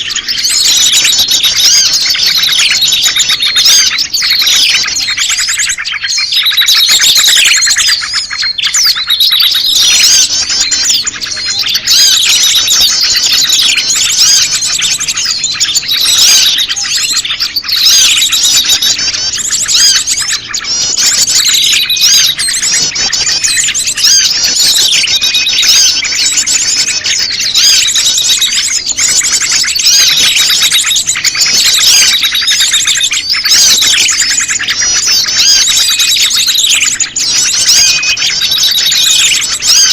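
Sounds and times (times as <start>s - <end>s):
bird calls: 0.0s - 39.9s
small birds chirping and twittering: 0.0s - 39.9s.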